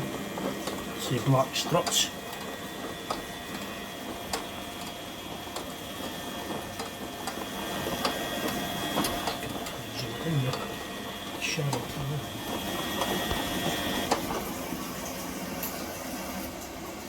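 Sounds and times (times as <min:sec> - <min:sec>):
washing machine whirring: 0:00.0 - 0:17.0.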